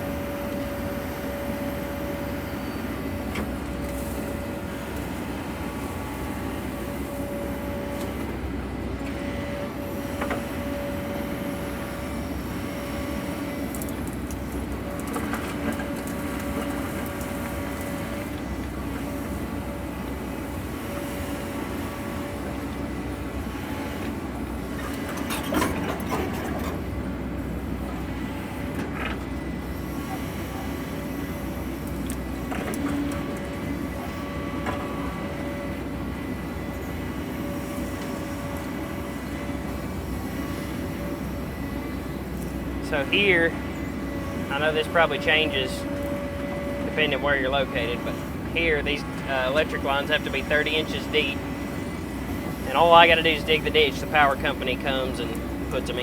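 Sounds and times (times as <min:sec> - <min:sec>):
excavator diesel drone: 0:00.0 - 0:56.0.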